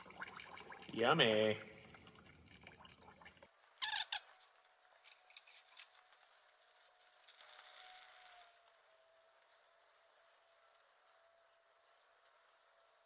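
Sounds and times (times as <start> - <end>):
oil trickling into a tub: 0.0 - 10.8.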